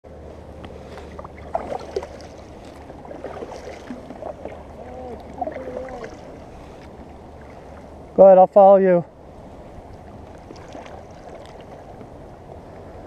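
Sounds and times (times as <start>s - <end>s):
steady low rumble: 0.0s - 13.0s
water sloshing and lapping: 0.6s - 8.2s, 9.1s - 13.0s.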